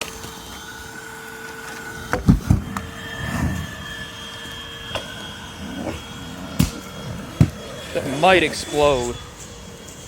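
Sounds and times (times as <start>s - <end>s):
vacuum cleaner motor whine: 0.0s - 10.0s.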